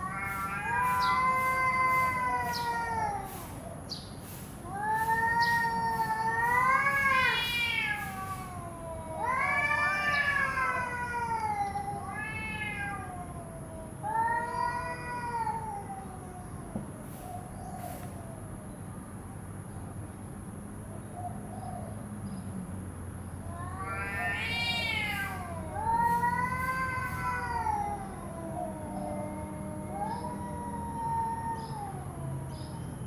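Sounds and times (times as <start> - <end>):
cats yowling: 0.0 - 3.8, 4.6 - 18.4, 23.4 - 32.9.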